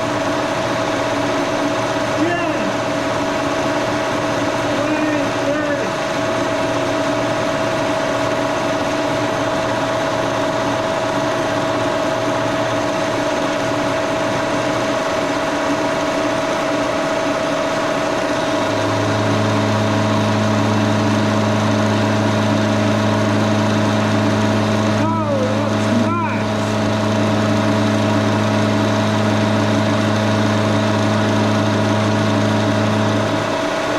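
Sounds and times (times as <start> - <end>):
deep steady hum: 0.0 - 33.9
milling machine whine: 0.0 - 33.9.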